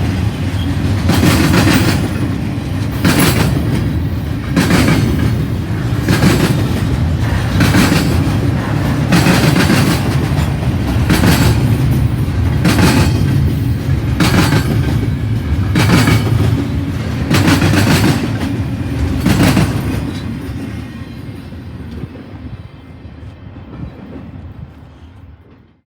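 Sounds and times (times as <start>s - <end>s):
wheels clacking over rail joint: 0.0s - 20.8s
freight train rumbling past: 0.0s - 25.8s.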